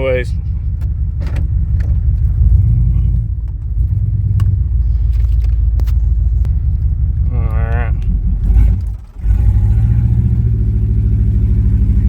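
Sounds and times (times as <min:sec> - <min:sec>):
truck exhaust rumbling: 0:00.0 - 0:12.0.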